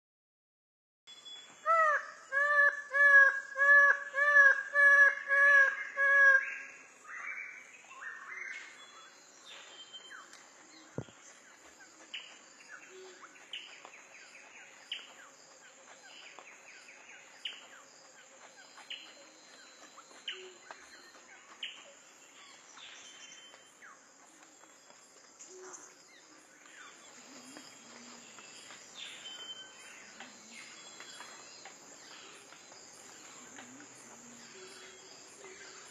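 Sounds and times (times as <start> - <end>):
steady high-pitched hiss: 1.1 - 35.9.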